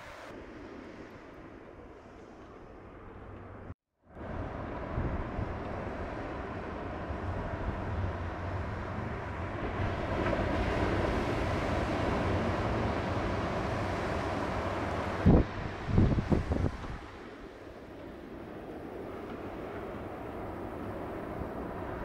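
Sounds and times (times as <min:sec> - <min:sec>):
wind buffeting microphone: 0:04.2 - 0:22.0.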